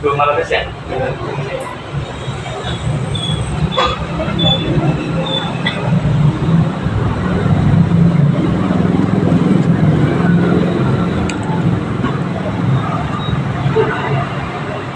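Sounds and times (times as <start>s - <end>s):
road traffic engine rumble: 0.0s - 14.9s.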